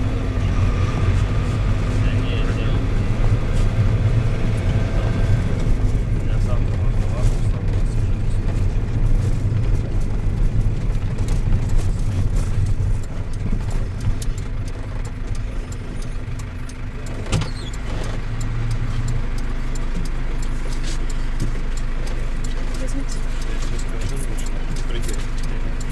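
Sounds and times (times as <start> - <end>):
engine and road rumble: 0.0 - 25.9
engine idling hum: 0.0 - 25.9.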